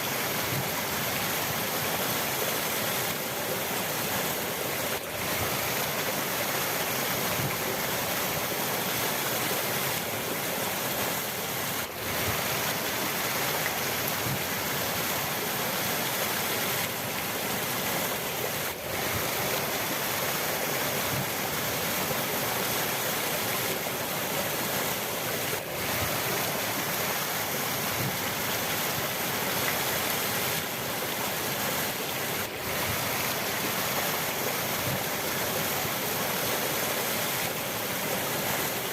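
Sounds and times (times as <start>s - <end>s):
rushing river water: 0.0s - 38.9s.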